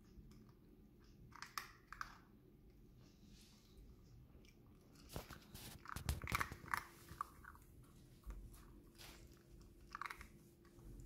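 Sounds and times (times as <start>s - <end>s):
puppy crunching dry kibble: 0.0s - 2.4s, 4.4s - 11.0s.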